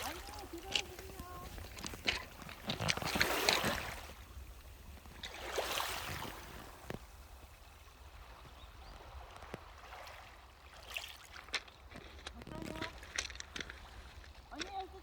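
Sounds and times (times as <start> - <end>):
seawater sloshing and splashing: 0.0 - 7.1, 8.1 - 15.0.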